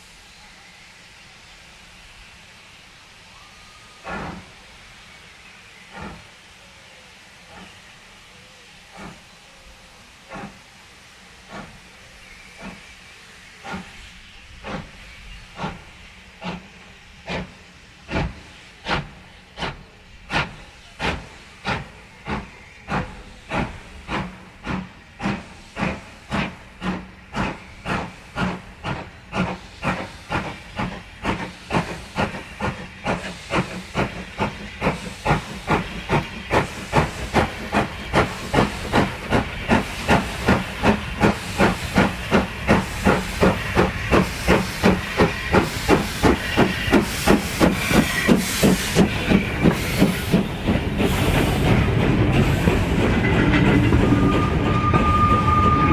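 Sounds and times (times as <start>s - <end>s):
steam hissing: 0.0s - 55.9s
steam locomotive chuffing: 0.0s - 55.9s.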